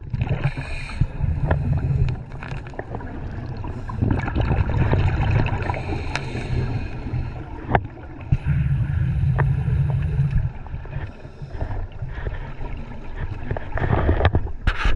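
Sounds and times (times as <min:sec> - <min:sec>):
underwater regulator bubbles: 0:00.0 - 0:14.7.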